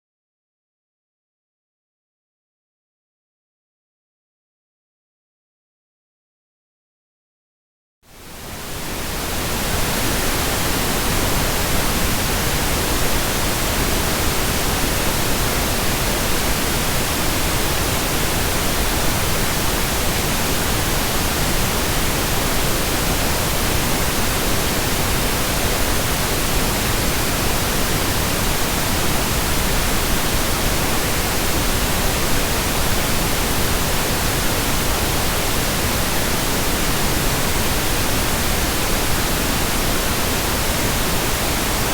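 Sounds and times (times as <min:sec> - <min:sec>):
pink noise hiss: 0:08.1 - 0:41.9.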